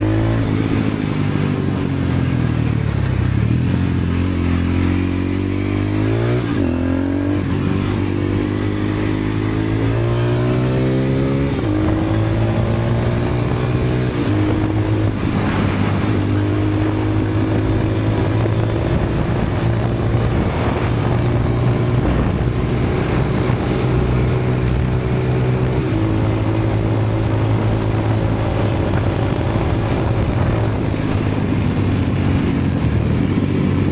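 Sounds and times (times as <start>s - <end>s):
loud motorcycle engine revving: 0.0s - 33.9s.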